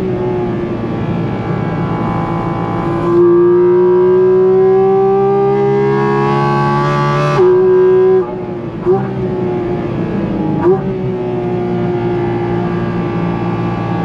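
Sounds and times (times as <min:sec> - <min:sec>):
car engine wailing at high revs: 0:00.0 - 0:14.0.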